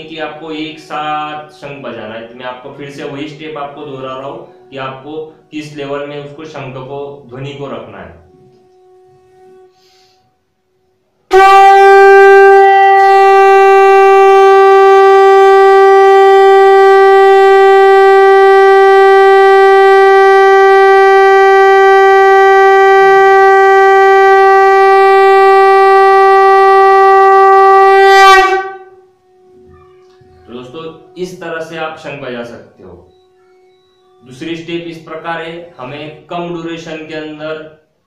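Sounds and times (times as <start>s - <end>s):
conch shell blown in long note: 2.2s - 36.7s.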